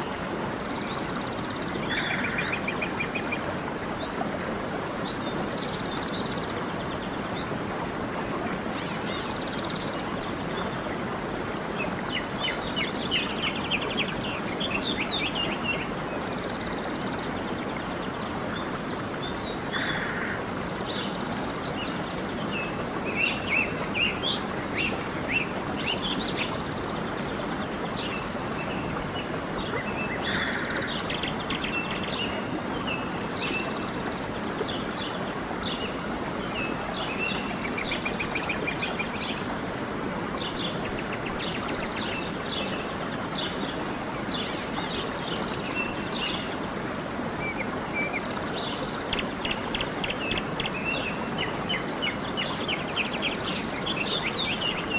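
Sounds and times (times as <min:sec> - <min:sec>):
stream flowing: 0:00.0 - 0:54.9.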